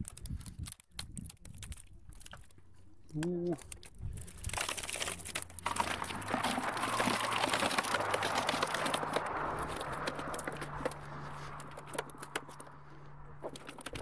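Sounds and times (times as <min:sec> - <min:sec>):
nylon mesh net rustling: 0:00.0 - 0:14.0.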